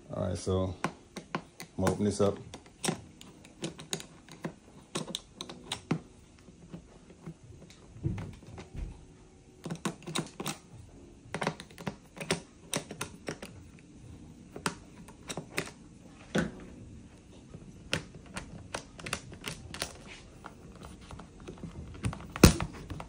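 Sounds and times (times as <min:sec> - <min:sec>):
screwdriver clicking and tapping: 0:00.8 - 0:08.9, 0:09.6 - 0:13.8, 0:14.5 - 0:16.6, 0:17.8 - 0:23.0.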